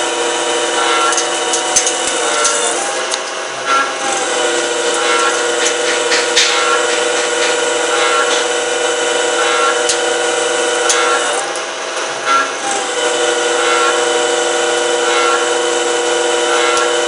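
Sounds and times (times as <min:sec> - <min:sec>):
lathe whining: 0:00.0 - 0:17.0.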